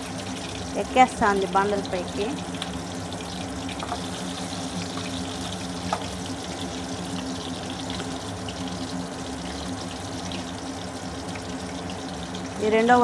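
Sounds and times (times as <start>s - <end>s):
deep-frying sizzle with crackles: 0.0s - 13.0s.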